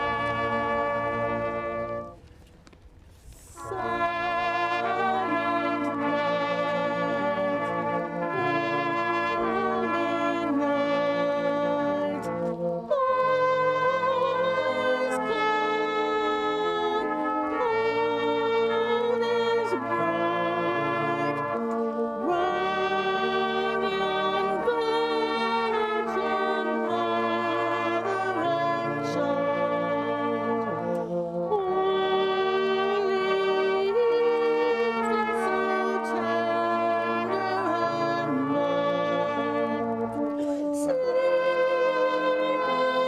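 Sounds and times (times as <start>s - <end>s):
brass band playing slow tune: 0.0s - 43.0s.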